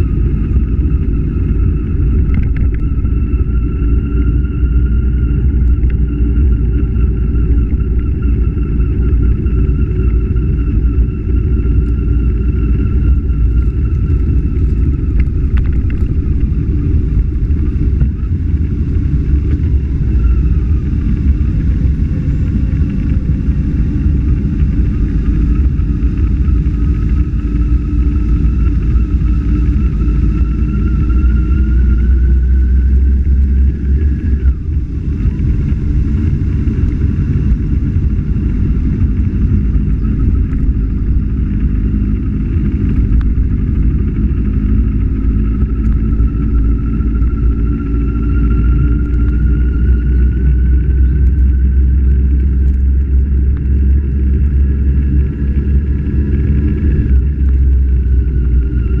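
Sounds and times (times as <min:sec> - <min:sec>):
motorcycle engine running: 0:00.0 - 0:59.0
wind and road rumble: 0:00.0 - 0:59.0.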